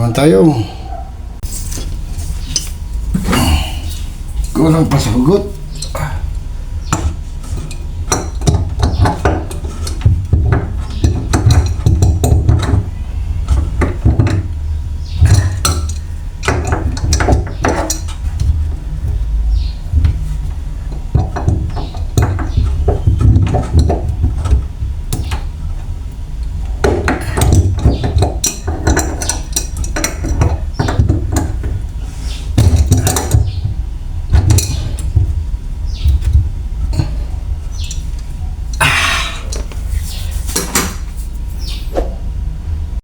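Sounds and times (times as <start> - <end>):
constant low rumble: 0.0 - 43.0.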